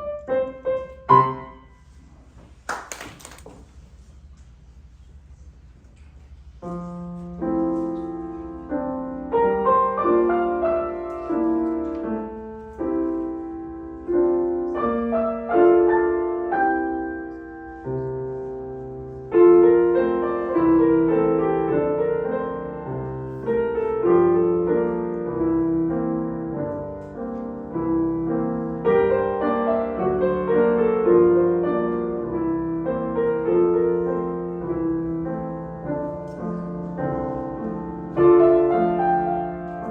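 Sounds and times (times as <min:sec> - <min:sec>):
solo piano playing: 0:00.0 - 0:02.0, 0:06.6 - 0:39.9.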